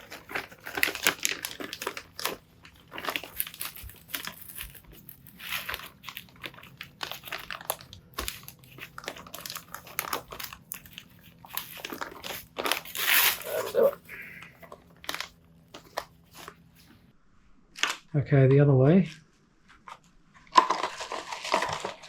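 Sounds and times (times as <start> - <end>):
plastic bag crinkling: 0.0 - 16.9, 20.5 - 22.0.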